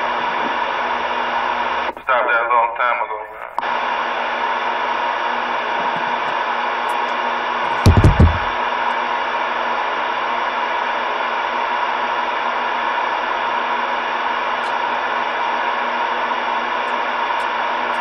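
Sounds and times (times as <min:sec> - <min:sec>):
radio static hiss: 0:00.0 - 0:08.6, 0:10.8 - 0:18.0.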